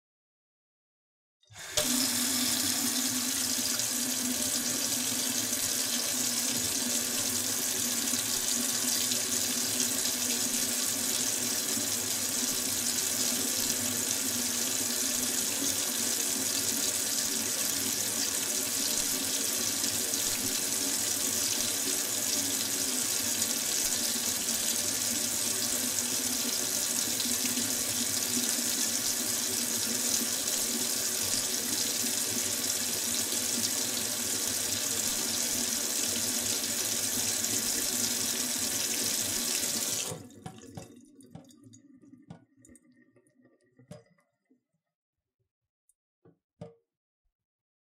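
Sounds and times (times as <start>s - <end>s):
tap water running into sink: 1.5s - 44.1s.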